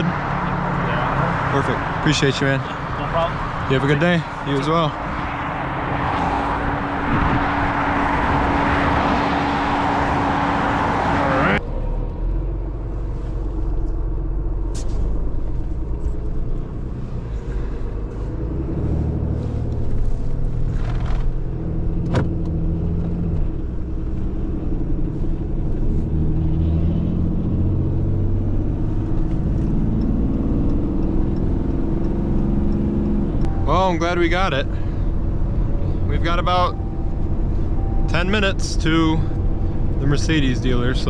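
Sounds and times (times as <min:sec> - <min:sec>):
truck engine accelerating: 0:00.0 - 0:41.0.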